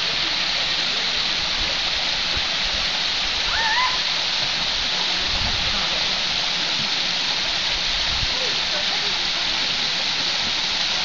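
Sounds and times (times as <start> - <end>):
waterfall hiss: 0.0 - 11.0.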